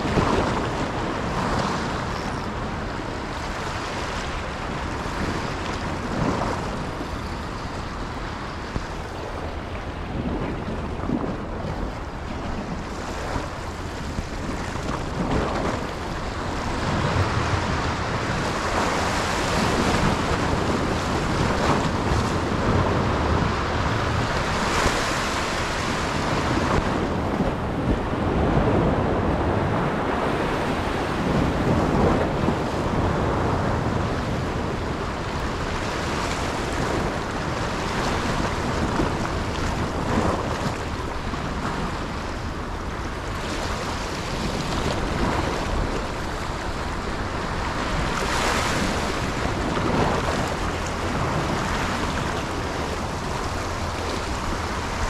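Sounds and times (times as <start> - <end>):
sea waves: 0.0 - 55.0
wind buffeting microphone: 0.0 - 55.0.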